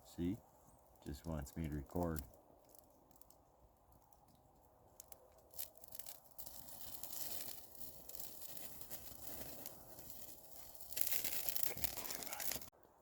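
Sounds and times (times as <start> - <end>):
crackly rustling: 0.1 - 13.0.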